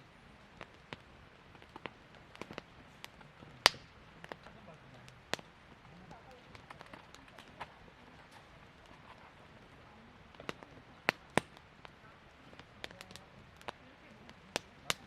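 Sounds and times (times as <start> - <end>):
campfire wood crackling: 0.0 - 15.0
sharp pops of fire: 0.0 - 15.0.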